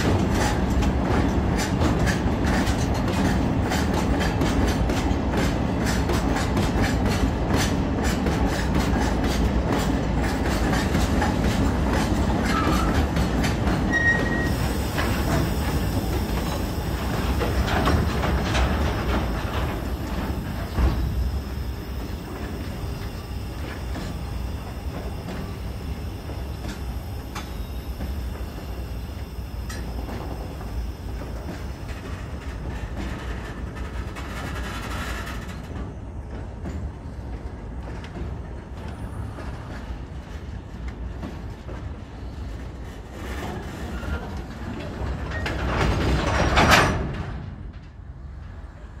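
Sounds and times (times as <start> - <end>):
freight train rolling past: 0.0 - 49.0.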